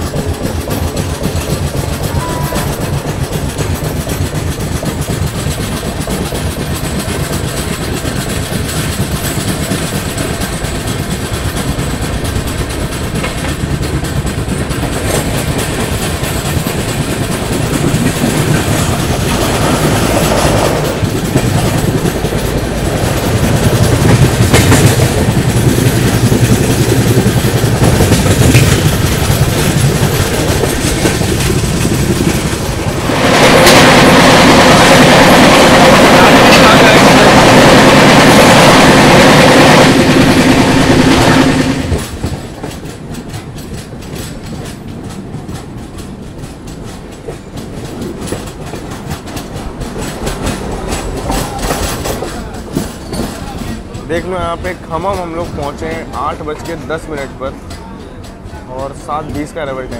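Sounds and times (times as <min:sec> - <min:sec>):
train rumble: 0:00.0 - 0:59.9
train wheels clacking over rail joints: 0:00.0 - 0:59.9.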